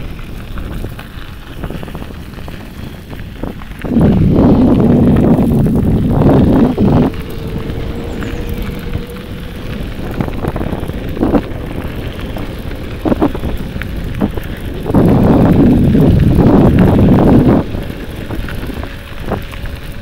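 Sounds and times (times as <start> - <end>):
wind buffeting microphone: 0.0 - 20.0
low rumble: 0.2 - 20.0.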